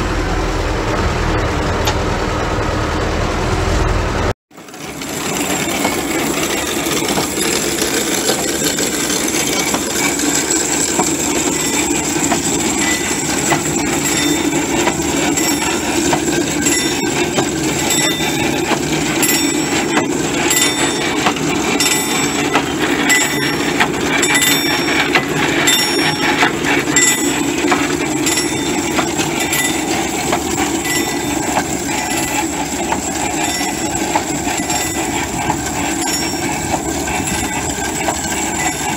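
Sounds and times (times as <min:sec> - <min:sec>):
tractor engine running: 0:00.0 - 0:38.9
spreader chain rattling: 0:04.8 - 0:38.9.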